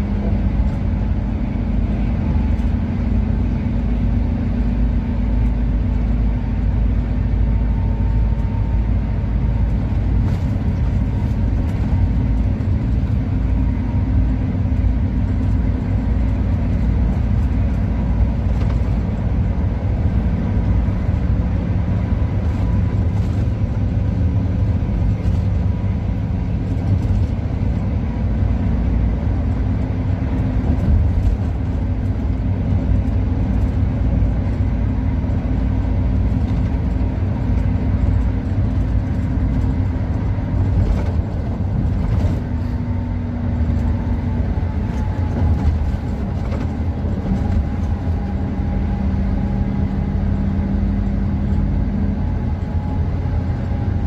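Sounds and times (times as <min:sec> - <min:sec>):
coach engine and tyres droning: 0:00.0 - 0:54.0.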